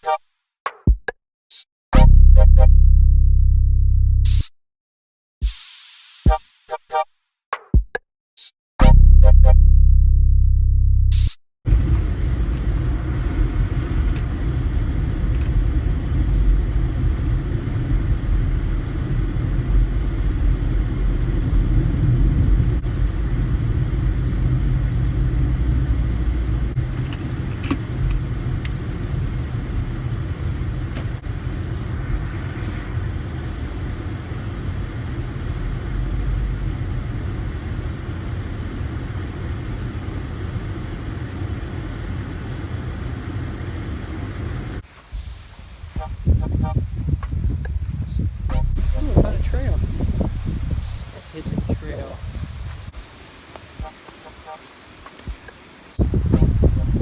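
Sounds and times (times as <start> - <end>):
car road and engine rumble: 8.9 - 57.0.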